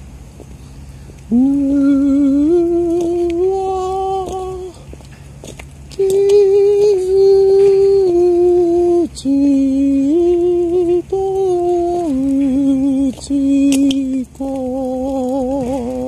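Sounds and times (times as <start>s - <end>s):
person humming a slow tune: 1.3s - 4.9s, 5.9s - 16.0s.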